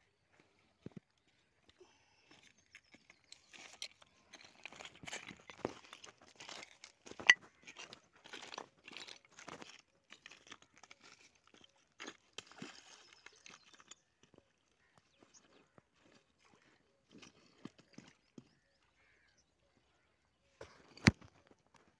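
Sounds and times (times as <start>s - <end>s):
footsteps on loose stones: 0.2s - 20.0s.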